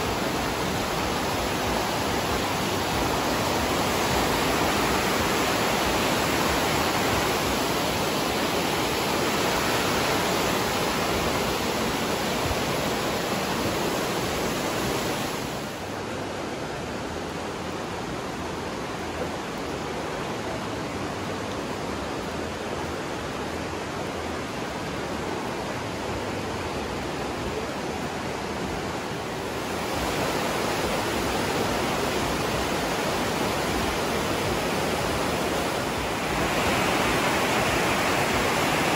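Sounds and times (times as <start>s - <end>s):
river rushing through gorge: 0.0s - 38.9s.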